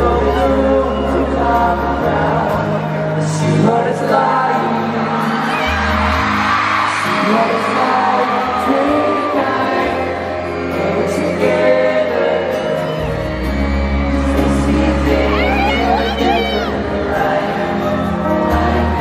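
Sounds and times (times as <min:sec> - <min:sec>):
man singing pop ballad: 0:00.0 - 0:13.4, 0:14.0 - 0:19.0
fans screaming and singing: 0:00.0 - 0:19.0.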